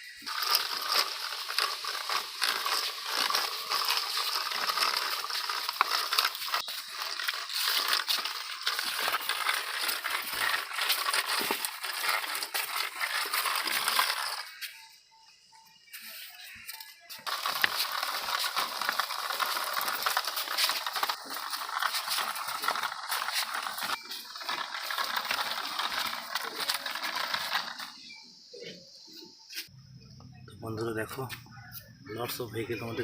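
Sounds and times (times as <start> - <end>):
plastic toy vehicle rattling: 0.1 - 14.9, 16.4 - 28.7.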